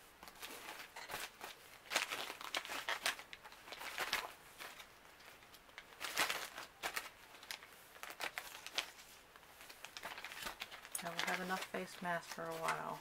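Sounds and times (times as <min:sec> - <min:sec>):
sachets crinkling: 0:00.2 - 0:13.0.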